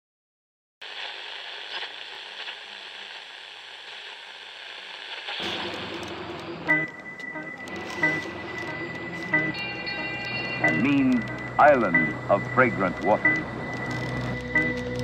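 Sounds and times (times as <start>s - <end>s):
crackling hiss: 0.8s - 15.0s
low sounds and steady tones: 0.8s - 15.0s.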